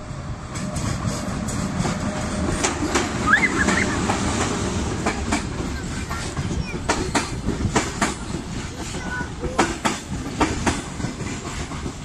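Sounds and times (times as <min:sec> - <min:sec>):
train rumbling past: 0:00.0 - 0:12.0
wheels clacking over rail joints: 0:00.5 - 0:12.0.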